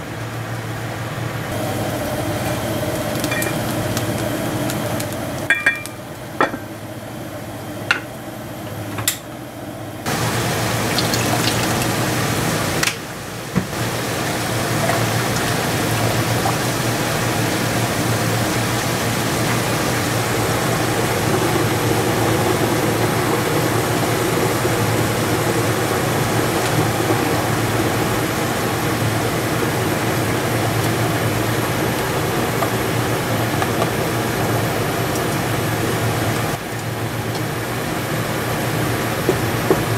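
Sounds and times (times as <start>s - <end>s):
pot of broth boiling: 1.5s - 8.4s, 10.0s - 39.9s.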